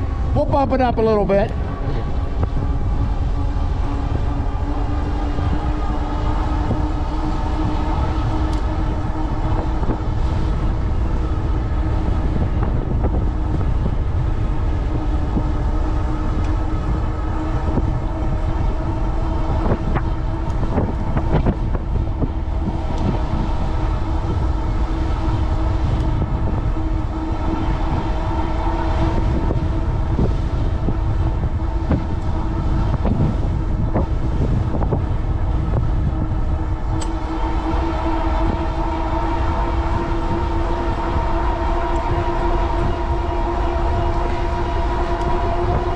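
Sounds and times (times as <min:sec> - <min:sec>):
electric motor whine: 0:00.0 - 0:45.9
tires rolling rumble: 0:00.0 - 0:45.9
wind buffeting microphone: 0:00.0 - 0:45.9.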